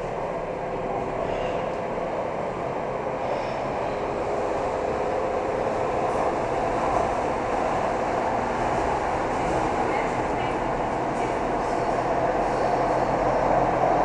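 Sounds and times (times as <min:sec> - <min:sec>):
metro wheels rumbling: 0:00.0 - 0:14.0.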